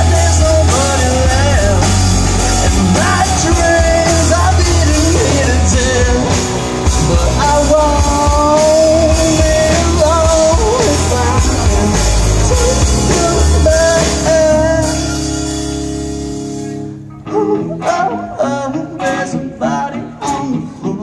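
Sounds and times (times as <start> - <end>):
person singing: 0.0 - 15.8, 17.1 - 21.0
drum kit: 0.0 - 16.8
bass guitar: 0.0 - 21.0
electric guitar: 0.0 - 21.0.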